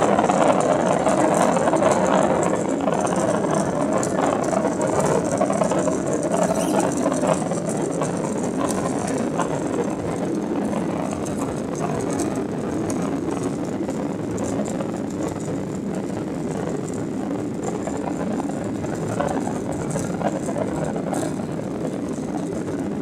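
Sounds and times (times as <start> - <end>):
jet engines humming: 0.0 - 23.0.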